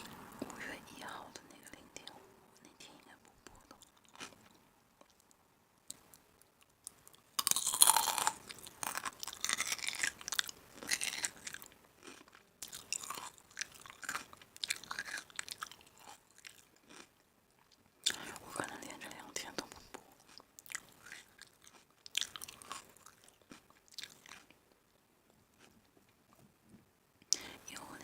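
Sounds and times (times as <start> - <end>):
chewing crisp food: 3.6 - 26.4.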